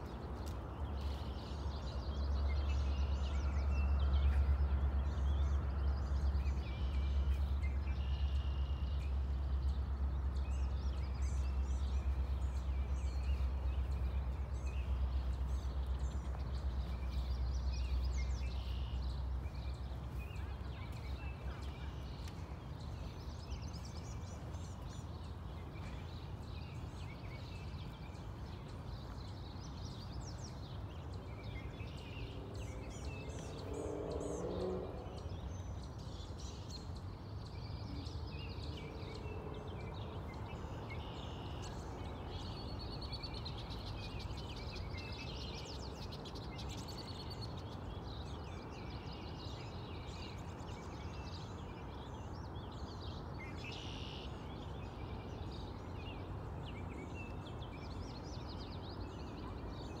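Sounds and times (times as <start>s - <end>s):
low outdoor rumble: 0.0s - 60.0s
songbirds chirping and trilling: 0.0s - 60.0s.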